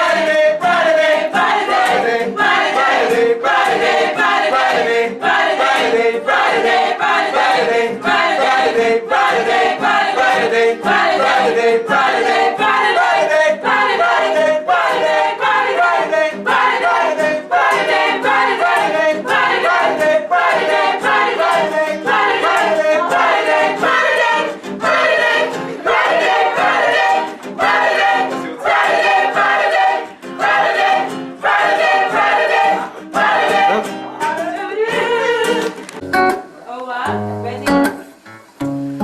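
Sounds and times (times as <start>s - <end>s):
gospel choir singing: 0.0s - 36.0s.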